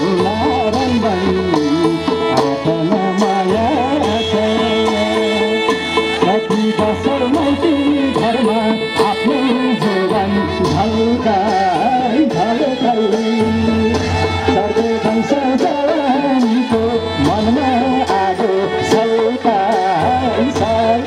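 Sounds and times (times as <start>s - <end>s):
hand drum beat: 0.0s - 21.0s.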